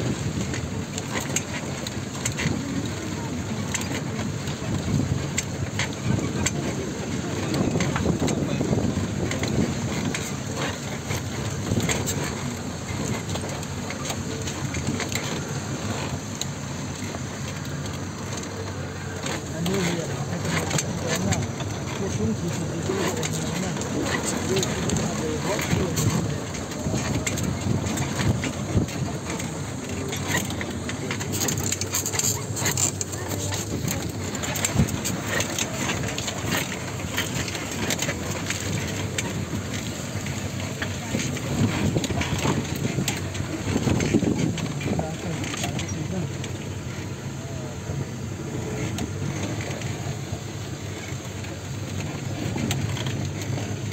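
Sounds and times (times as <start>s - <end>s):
tyres in deep mud: 0.0s - 53.9s
vehicle engine running low: 0.0s - 53.9s
scattered clicks: 0.3s - 47.2s.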